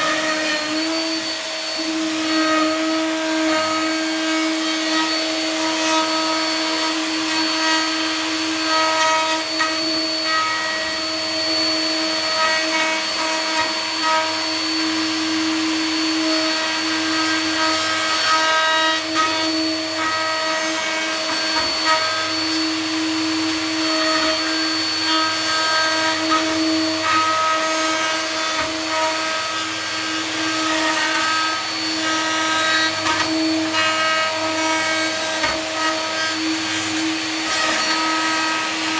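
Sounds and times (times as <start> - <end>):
router cutting wood: 0.0 - 38.9.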